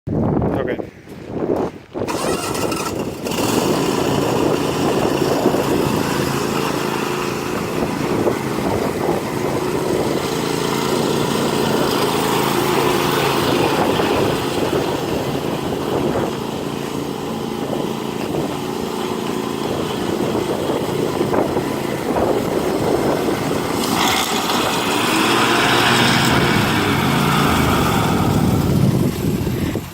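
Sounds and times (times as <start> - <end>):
riding lawn mower engine running: 2.0 - 29.9.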